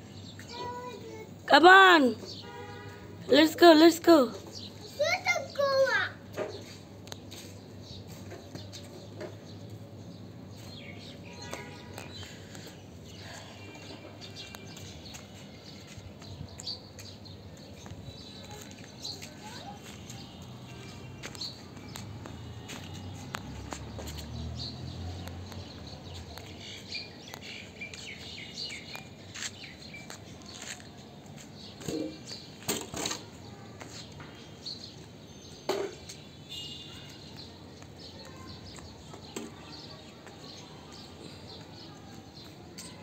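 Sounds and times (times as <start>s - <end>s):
birds chirping: 0.1s - 43.0s.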